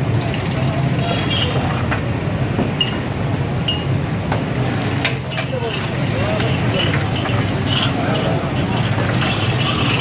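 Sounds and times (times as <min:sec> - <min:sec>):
street traffic hum: 0:00.0 - 0:10.0.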